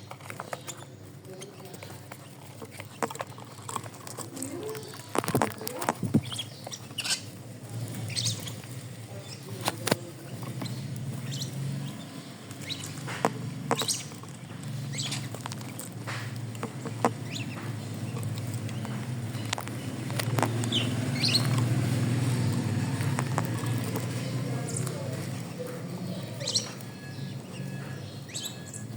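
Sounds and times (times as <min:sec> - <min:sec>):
pet bird chirping: 0:00.0 - 0:28.9.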